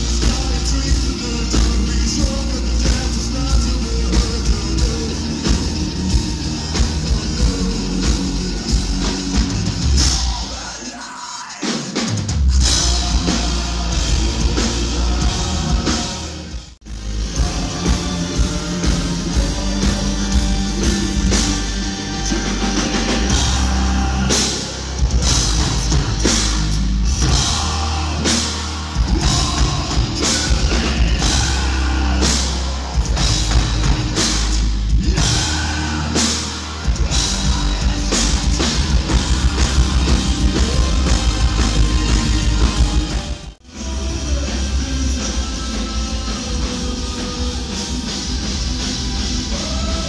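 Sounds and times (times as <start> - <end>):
deep bass guitar: 0.0 - 10.4, 12.6 - 50.0
heavy drums: 0.0 - 50.0
person singing: 0.0 - 50.0.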